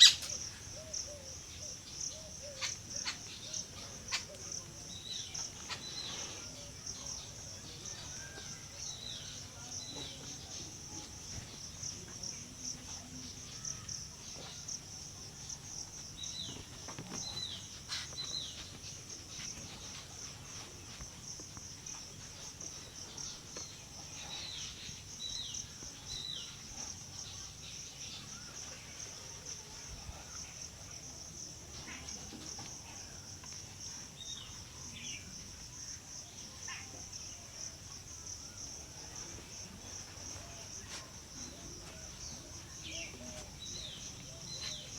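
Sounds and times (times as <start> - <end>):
high pulsing insect chirr: 0.0 - 44.9.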